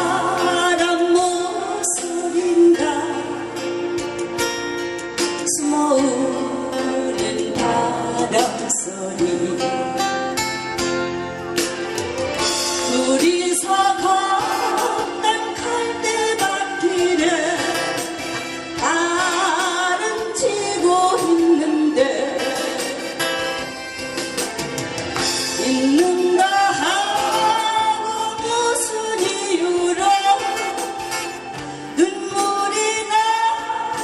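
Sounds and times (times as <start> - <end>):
woman singing a ballad: 0.0 - 4.5, 5.2 - 10.9, 12.4 - 23.7, 25.4 - 34.0
guitar accompaniment: 0.0 - 34.0.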